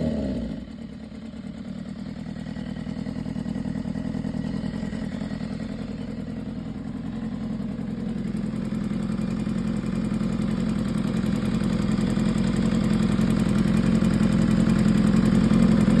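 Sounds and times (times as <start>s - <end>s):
engine ticking: 0.0s - 16.0s
motorcycle engine idling: 0.0s - 16.0s.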